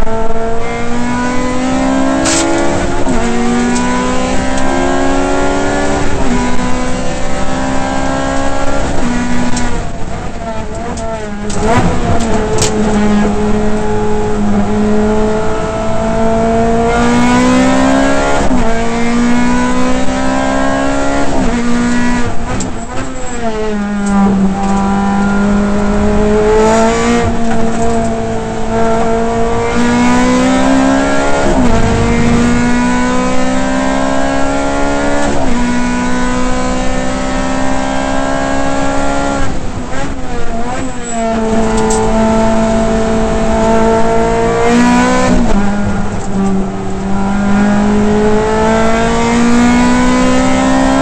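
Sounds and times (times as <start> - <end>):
race car engine accelerating: 0.0 - 51.0.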